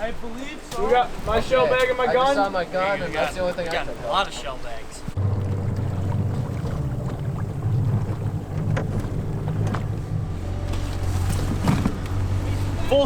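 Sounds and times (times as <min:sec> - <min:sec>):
boat motor humming: 0:02.5 - 0:13.0.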